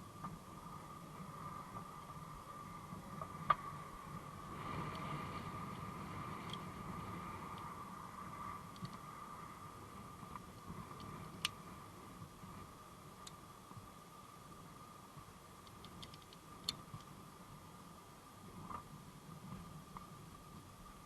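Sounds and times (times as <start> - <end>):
faint high-pitched hum: 0.0 - 21.0
wind rumble on microphone: 0.0 - 21.0.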